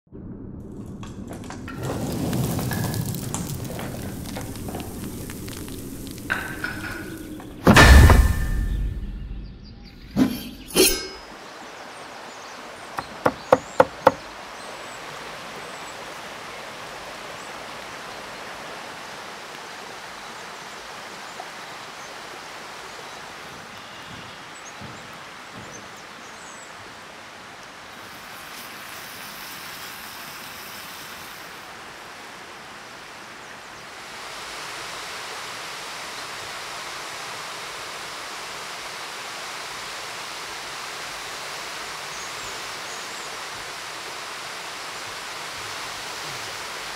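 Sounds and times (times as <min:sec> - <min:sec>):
outdoor ambience hiss: 0:00.9 - 0:46.9.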